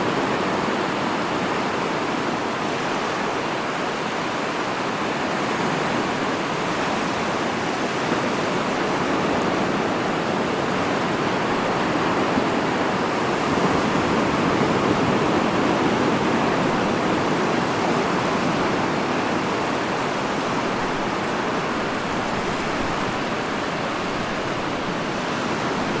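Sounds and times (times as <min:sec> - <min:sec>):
ocean waves washing: 0:00.0 - 0:26.0.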